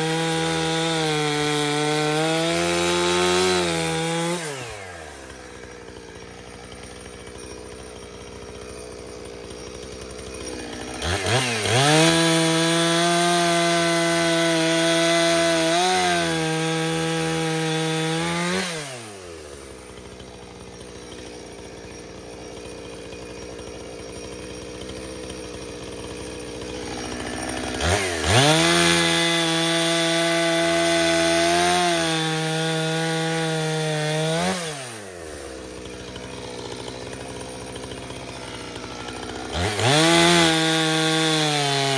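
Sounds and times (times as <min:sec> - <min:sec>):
chainsaw cutting wood: 0:00.0 - 0:41.9
chainsaw idling and revving: 0:00.0 - 0:41.9.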